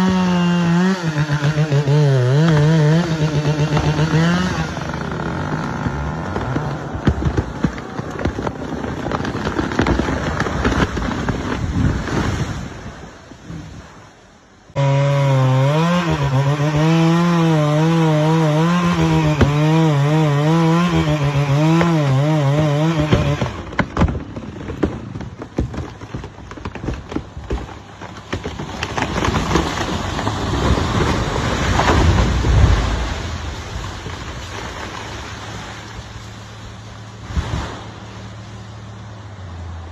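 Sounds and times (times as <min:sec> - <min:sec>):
chainsaw cutting tree: 0:00.0 - 0:13.0, 0:14.7 - 0:38.8.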